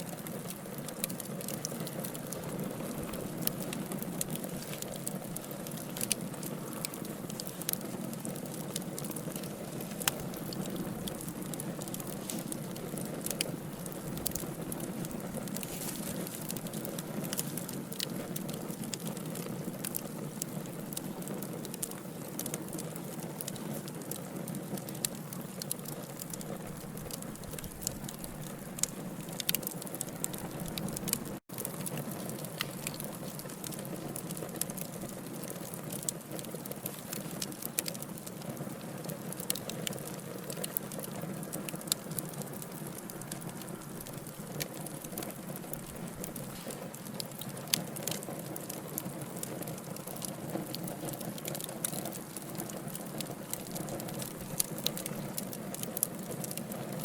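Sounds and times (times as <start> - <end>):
logs crackling and popping: 0.0 - 57.0
wood fire flames hissing: 0.0 - 57.0.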